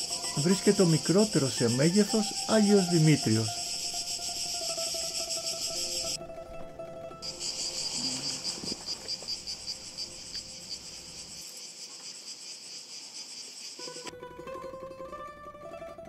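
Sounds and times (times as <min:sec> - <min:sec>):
insects chirring: 0:00.0 - 0:06.2, 0:07.2 - 0:14.1.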